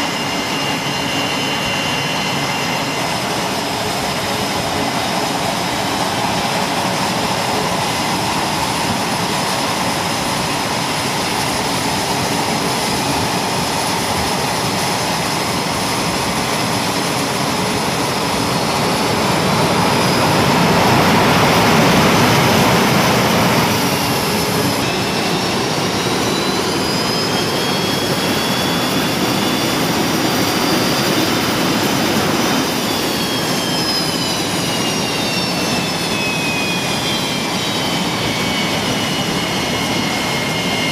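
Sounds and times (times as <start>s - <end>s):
jet engines roaring: 0.0s - 40.9s
turbine whines gliding: 0.0s - 40.9s.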